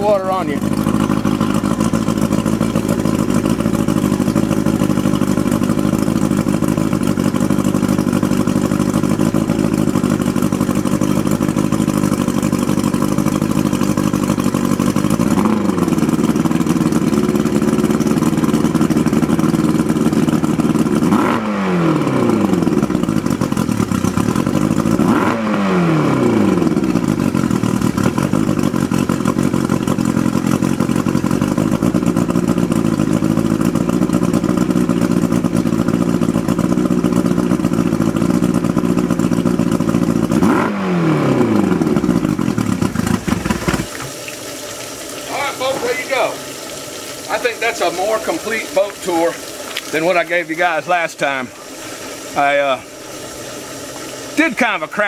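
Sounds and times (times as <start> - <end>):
outboard motor idling and revving: 0.0 - 55.0.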